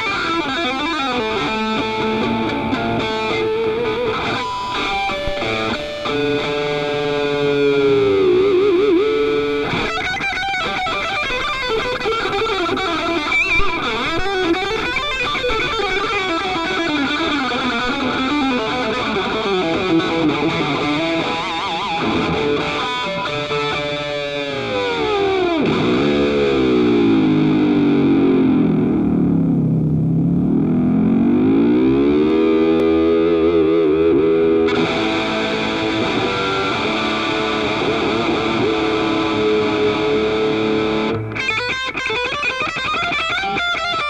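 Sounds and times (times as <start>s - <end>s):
distorted electric guitar wailing: 0.0s - 44.0s.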